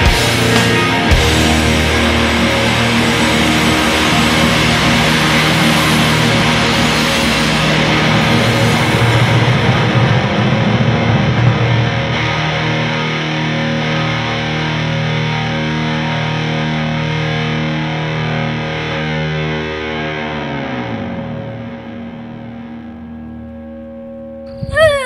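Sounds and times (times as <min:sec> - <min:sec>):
distorted electric guitar music: 0:00.0 - 0:25.0.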